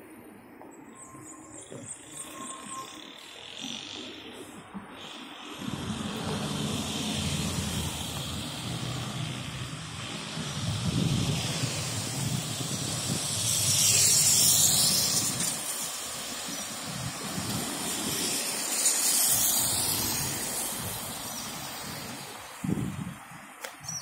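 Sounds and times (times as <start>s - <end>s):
vehicles passing close by: 1.0s - 23.8s
steady traffic hiss: 1.5s - 23.9s.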